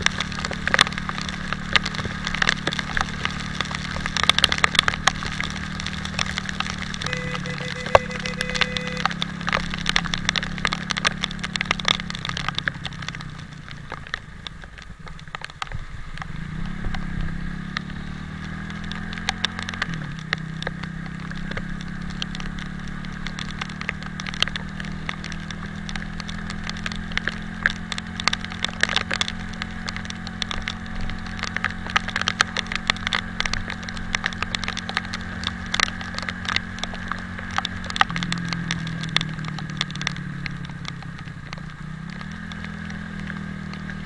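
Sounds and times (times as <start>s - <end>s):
motorcycle engine running: 0.0s - 44.0s
raindrops clicking on camera: 0.0s - 44.0s.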